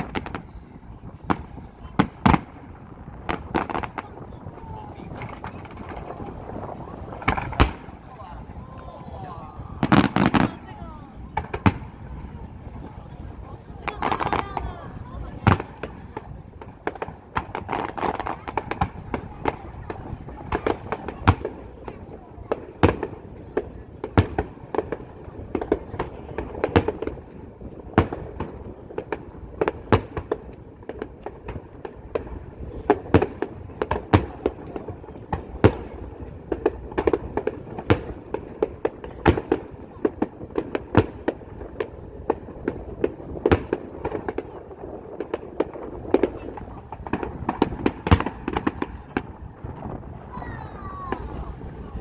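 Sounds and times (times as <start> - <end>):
fireworks bangs: 0.0 - 52.0
rumble of explosions: 0.0 - 52.0.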